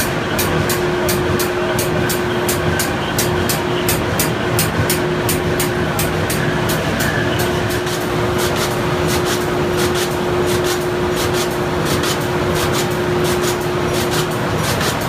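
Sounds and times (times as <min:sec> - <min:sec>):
box machine rollers humming: 0:00.0 - 0:15.0
sharp machine clicks: 0:00.0 - 0:15.0.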